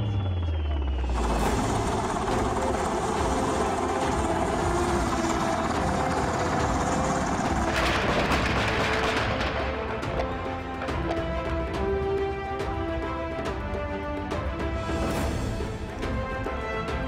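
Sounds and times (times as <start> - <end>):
helicopter flying overhead: 0.0 - 17.0.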